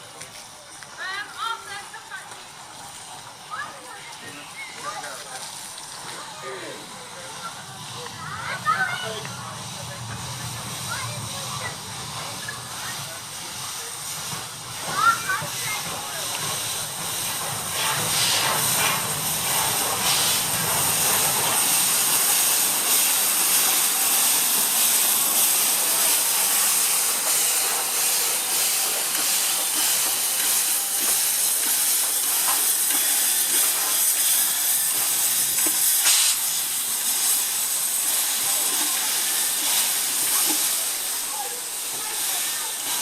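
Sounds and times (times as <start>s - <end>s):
steam locomotive hissing: 0.0s - 43.0s.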